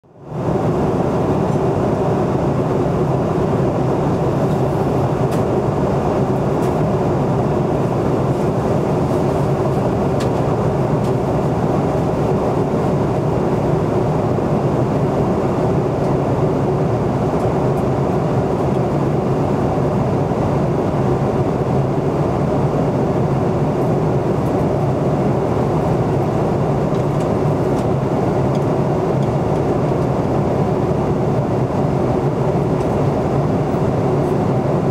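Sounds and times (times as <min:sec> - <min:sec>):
airliner cabin engine rush: 0:00.0 - 0:34.9.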